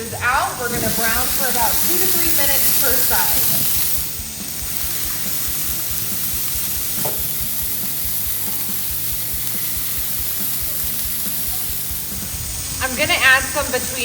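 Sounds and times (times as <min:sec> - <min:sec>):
steak sizzling on a griddle: 0:00.2 - 0:14.0.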